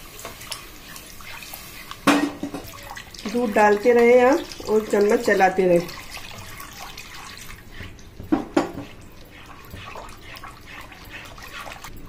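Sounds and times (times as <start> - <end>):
spatula stirring: 0.0 - 12.0.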